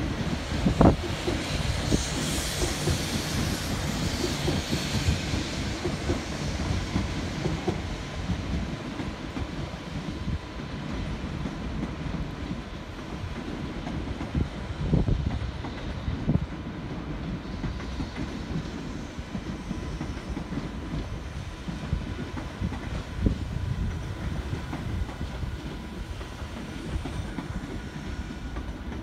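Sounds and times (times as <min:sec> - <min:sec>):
rushing hiss of passing train: 0:00.0 - 0:29.0.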